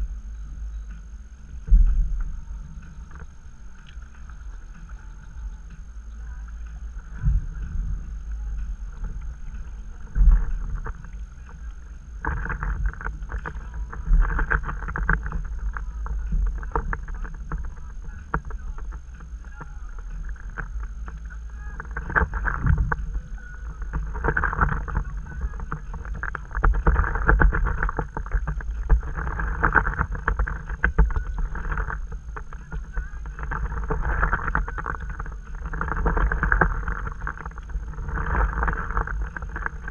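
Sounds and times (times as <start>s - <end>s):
paddle splashing water: 0.0s - 39.9s
steady low rumble: 0.0s - 39.9s.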